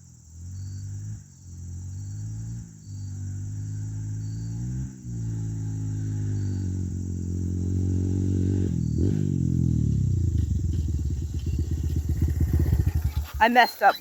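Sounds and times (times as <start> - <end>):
dirt bike engine chugging: 0.6 - 14.0.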